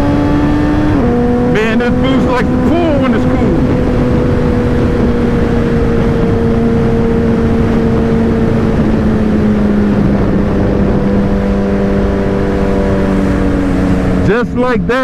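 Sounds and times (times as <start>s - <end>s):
wind rushing: 0.0s - 14.8s
motorcycle engine cruising: 0.0s - 15.0s.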